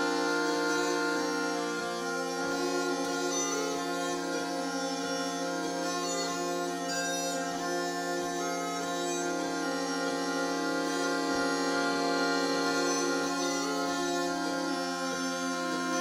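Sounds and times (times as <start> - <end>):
piano accordion: 0.0 - 16.0
smallpipes playing a tune: 0.0 - 16.0.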